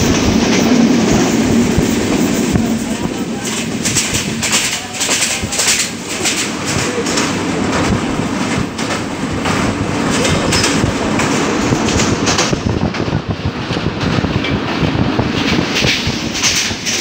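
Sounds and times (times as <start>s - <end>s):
rushing air: 0.0s - 4.6s, 6.5s - 17.0s
train rumble: 0.0s - 17.0s
wheels clacking on rails: 0.0s - 17.0s.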